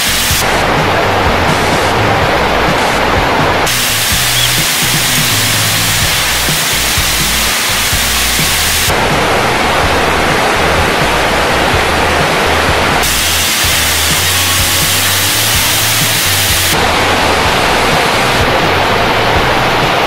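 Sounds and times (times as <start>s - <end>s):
low background music: 0.0s - 20.0s
stream rushing over boulders: 0.0s - 20.0s.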